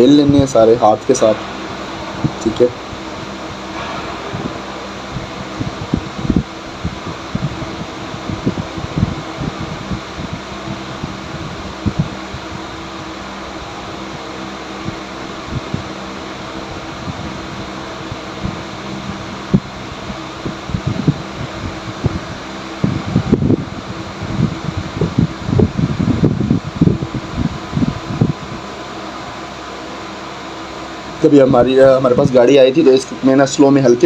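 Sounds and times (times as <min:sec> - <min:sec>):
fan whirring hum: 0:00.0 - 0:34.0.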